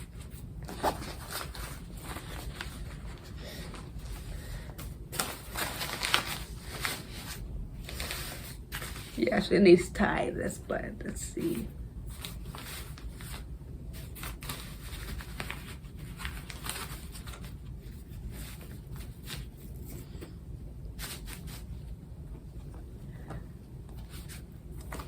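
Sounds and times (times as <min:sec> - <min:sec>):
rustles and clicks of handling doll: 0:00.0 - 0:09.4, 0:11.2 - 0:25.0
faint low hum: 0:00.0 - 0:25.0.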